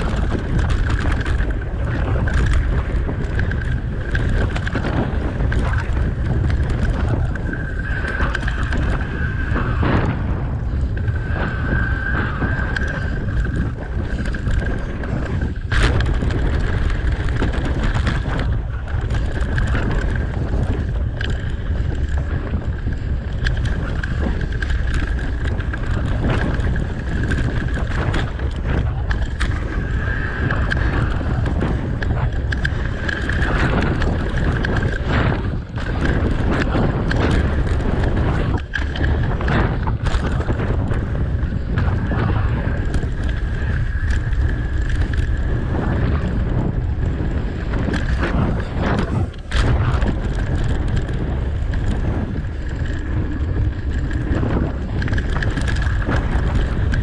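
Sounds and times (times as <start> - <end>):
bike knocks and rattles: 0.0 - 57.0
tyres rumbling on dirt: 0.0 - 57.0
wind buffeting microphone: 0.0 - 57.0.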